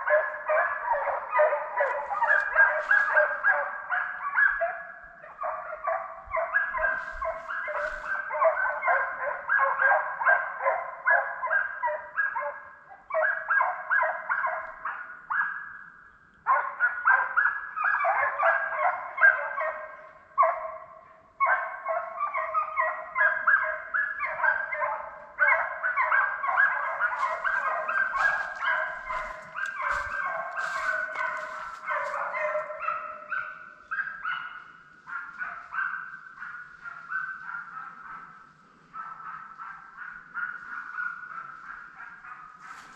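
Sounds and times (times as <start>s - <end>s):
hounds baying: 0.0s - 15.8s, 16.5s - 42.9s.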